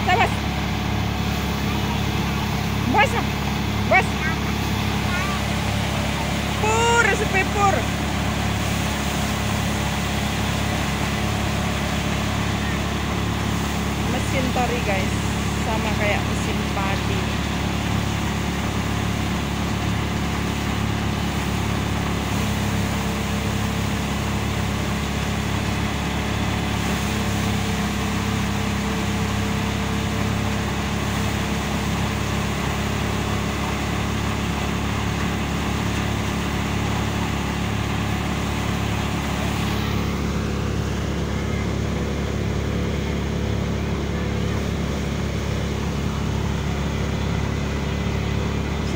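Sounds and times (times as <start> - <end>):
threshing machine drone: 0.0 - 48.9.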